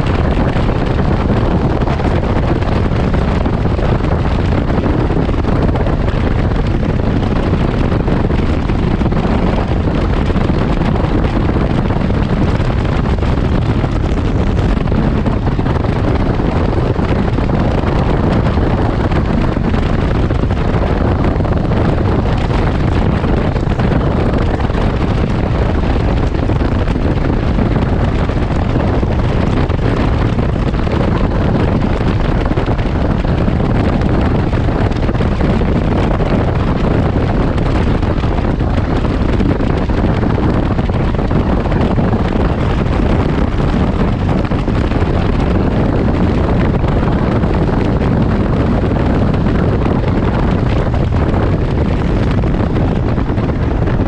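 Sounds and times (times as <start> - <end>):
vehicle engine drone: 0.0 - 54.0
wind noise on microphone: 0.0 - 54.0.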